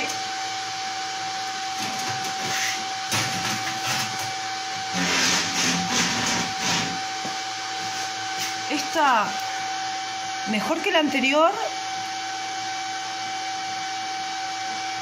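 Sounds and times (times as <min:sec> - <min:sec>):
welding machine cooling fan whirring: 0:00.0 - 0:15.0.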